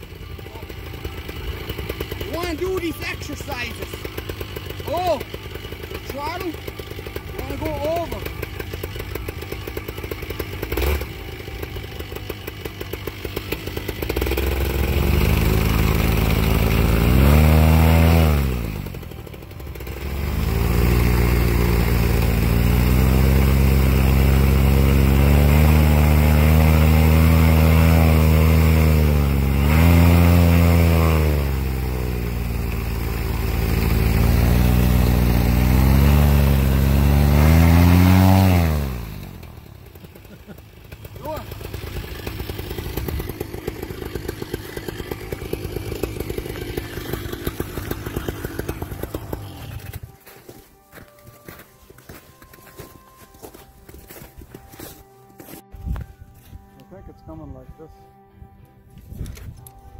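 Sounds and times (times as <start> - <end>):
paramotor engine revving: 0.0 - 50.5.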